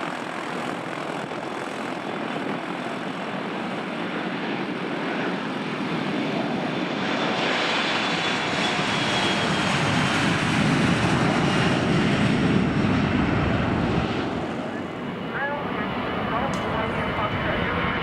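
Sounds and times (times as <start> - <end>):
airplane engine noise: 0.0 - 18.0.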